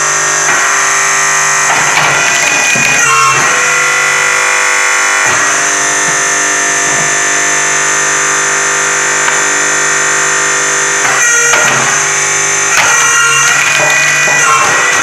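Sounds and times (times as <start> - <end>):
buzzy electronic chord: 0.0 - 15.0.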